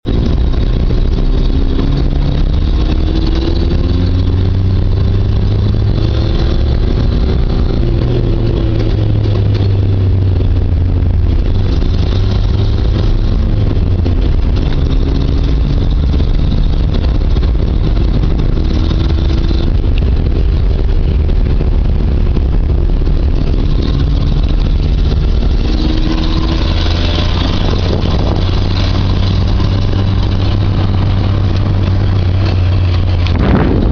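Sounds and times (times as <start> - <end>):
car exhaust low drone: 0.0 - 33.9.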